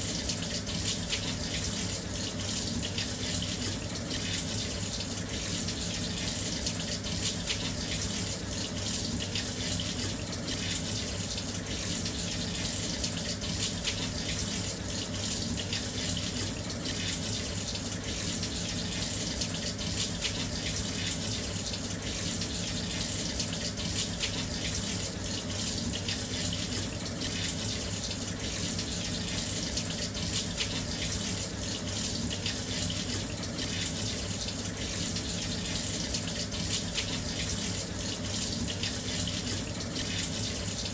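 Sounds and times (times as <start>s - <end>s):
washing machine filling with water: 0.0s - 40.9s.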